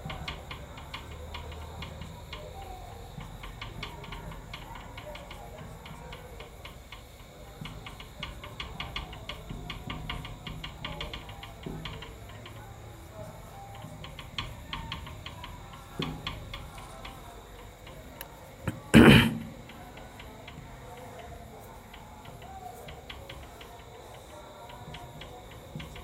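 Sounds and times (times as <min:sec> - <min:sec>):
light clicks and ticks: 0:00.0 - 0:26.0.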